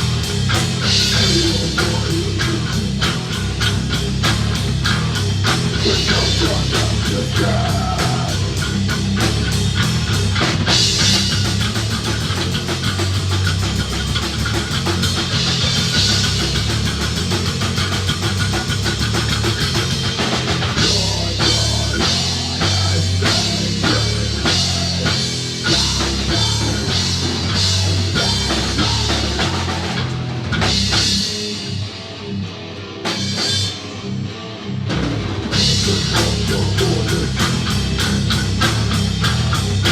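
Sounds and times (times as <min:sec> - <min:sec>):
fast drumming on drum kit: 0:00.0 - 0:32.1, 0:33.0 - 0:34.0, 0:34.9 - 0:39.9
heavy guitar: 0:00.0 - 0:39.9
rock band playing live: 0:00.0 - 0:39.9.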